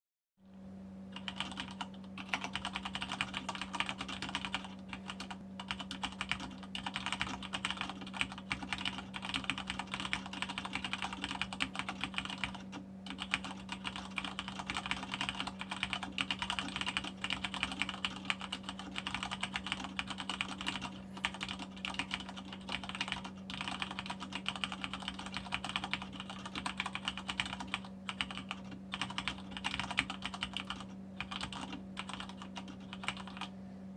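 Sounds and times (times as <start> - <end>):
fast mechanical keyboard typing: 1.1 - 33.5.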